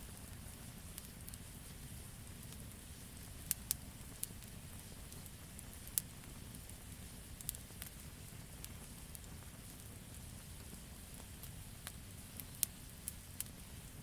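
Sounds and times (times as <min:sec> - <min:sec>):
low rumble of flame: 0:00.0 - 0:14.0
wood crackling and popping: 0:00.0 - 0:14.0.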